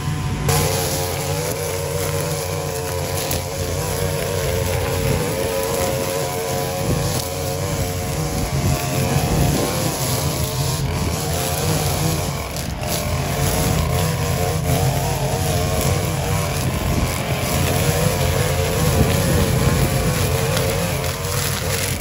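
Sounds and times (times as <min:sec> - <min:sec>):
string trimmer running: 0:00.0 - 0:22.0.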